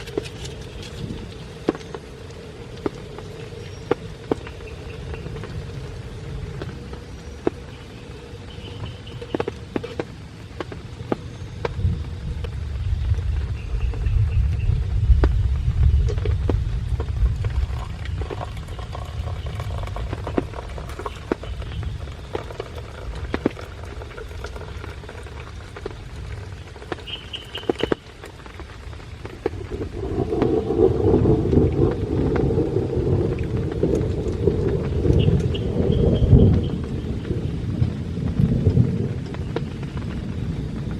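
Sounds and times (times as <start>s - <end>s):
rain: 0.0s - 40.9s
raindrops tapping: 0.0s - 40.9s
thunder rolling: 0.0s - 40.9s.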